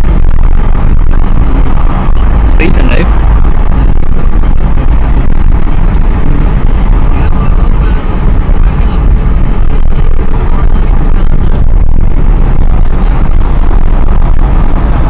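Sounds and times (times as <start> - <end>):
vehicle low rumble: 0.0 - 15.0
wind buffeting microphone: 0.0 - 15.0.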